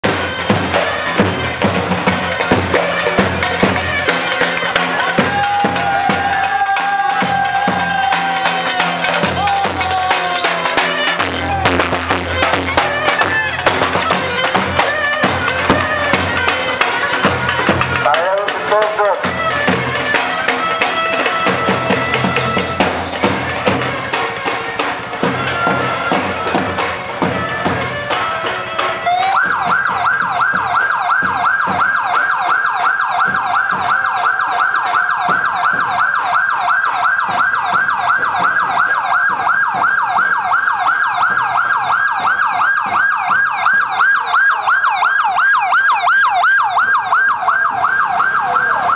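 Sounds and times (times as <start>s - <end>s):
music with drum beat: 0.0s - 48.9s
police siren yelping: 0.0s - 48.9s.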